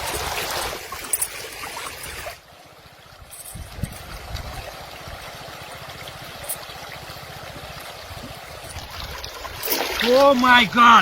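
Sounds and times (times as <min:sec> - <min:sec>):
water running and trickling: 0:00.0 - 0:11.0.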